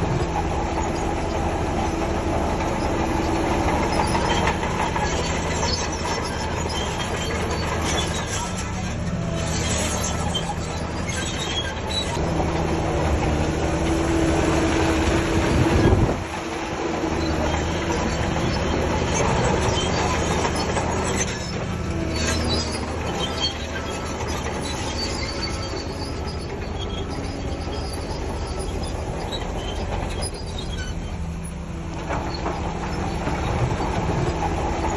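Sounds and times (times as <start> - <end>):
bulldozer diesel engine under load: 0.0 - 34.9
steel tracks squealing and clattering: 0.0 - 34.9.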